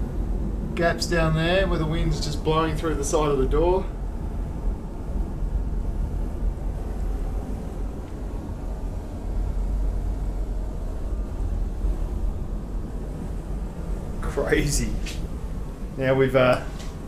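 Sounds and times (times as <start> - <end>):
wind blowing through door gaps: 0.0 - 17.0.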